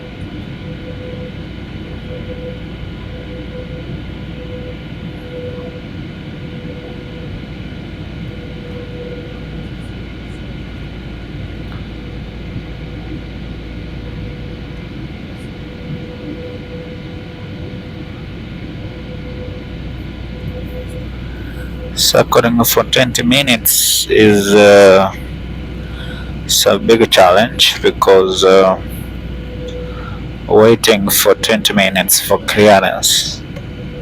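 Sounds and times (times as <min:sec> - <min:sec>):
faint steady hums: 0:00.0 - 0:34.0
jet engine and airflow drone: 0:00.0 - 0:34.0.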